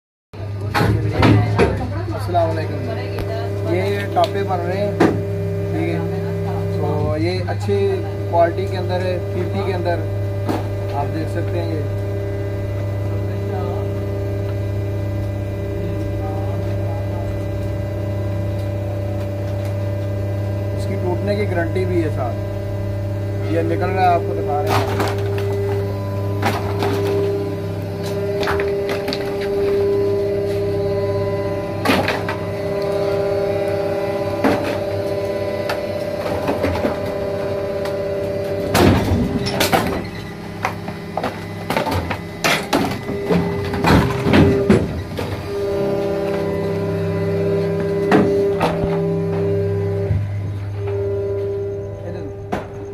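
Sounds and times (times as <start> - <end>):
machine hum: 0.4 - 52.9.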